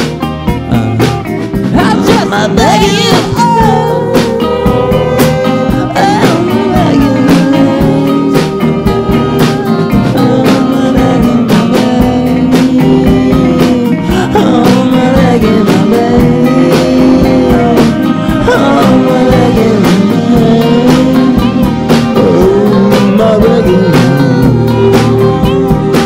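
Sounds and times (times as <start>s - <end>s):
guitar: 0.0s - 26.0s
steady drum beat: 0.0s - 26.0s
man singing rock song: 1.6s - 26.0s.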